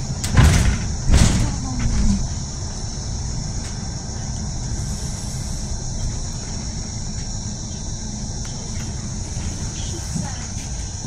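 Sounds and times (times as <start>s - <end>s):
bus engine and road rumble: 0.0s - 11.0s
constant high hiss: 0.0s - 11.0s.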